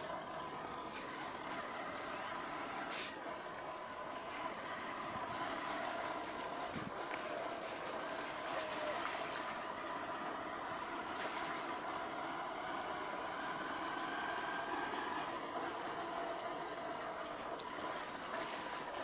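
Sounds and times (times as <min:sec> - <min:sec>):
tyres on wet pavement: 0:00.0 - 0:19.0.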